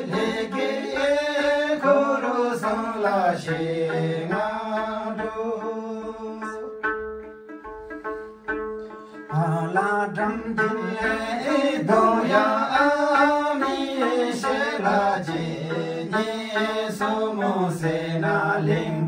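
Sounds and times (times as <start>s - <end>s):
men singing together: 0.0s - 6.6s, 9.3s - 19.0s
plucked lute: 0.0s - 19.0s.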